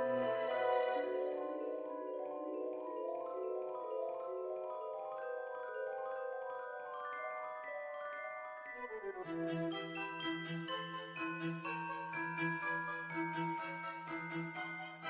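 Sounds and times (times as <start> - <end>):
gentle mallet instrument melody: 0.0 - 15.0.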